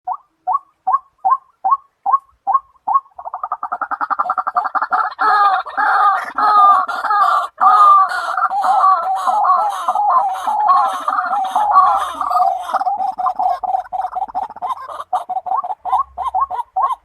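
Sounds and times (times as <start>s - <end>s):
waterhen croaking calls: 0.1s - 17.0s.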